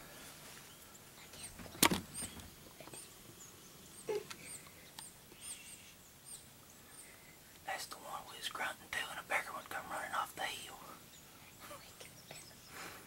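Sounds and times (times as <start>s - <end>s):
small bird chirping: 0.6s - 12.9s.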